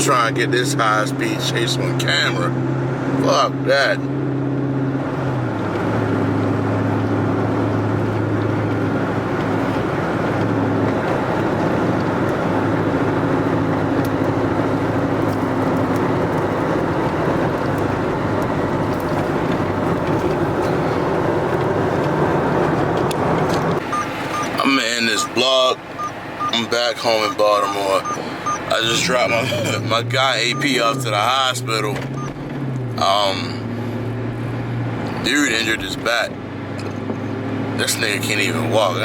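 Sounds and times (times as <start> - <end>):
car engine drone: 0.0 - 39.0
road noise: 0.0 - 39.0.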